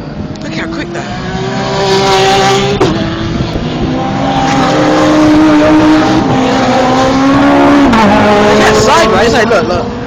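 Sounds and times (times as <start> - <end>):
race car engines at speed: 0.0 - 10.0.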